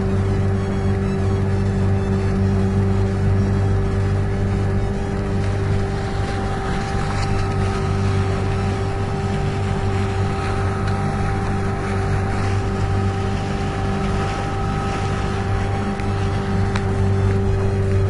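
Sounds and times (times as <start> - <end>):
motor humming steadily: 0.0 - 18.0.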